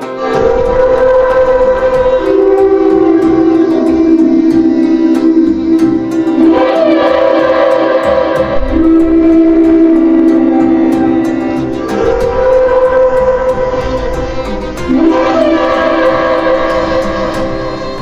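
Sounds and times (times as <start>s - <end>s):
long held string notes: 0.0s - 18.0s.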